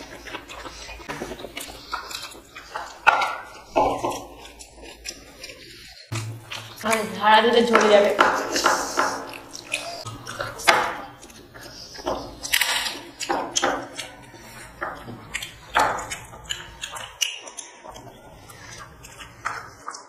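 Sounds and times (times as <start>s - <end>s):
wet chewing and squishing: 0.0s - 20.0s.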